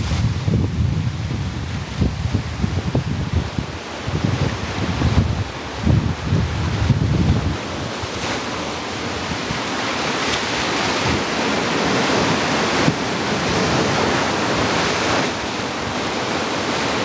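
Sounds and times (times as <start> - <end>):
waves breaking on beach: 0.0 - 17.0.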